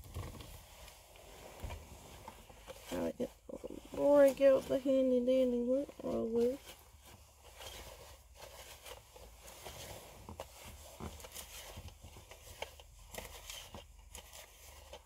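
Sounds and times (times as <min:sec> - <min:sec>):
lint roller crackling on fabric: 0:00.0 - 0:15.0.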